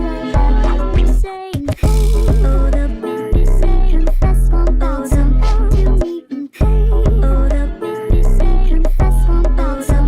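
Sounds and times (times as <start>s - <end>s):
music with repeating bass beat: 0.0s - 10.0s.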